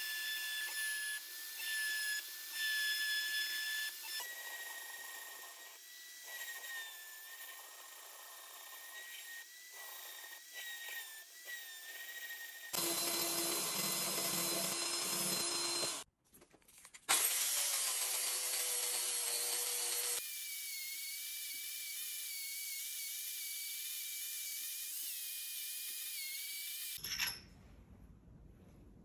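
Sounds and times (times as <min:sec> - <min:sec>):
rotary tool grinding steel: 0:00.0 - 0:16.1, 0:17.1 - 0:27.4.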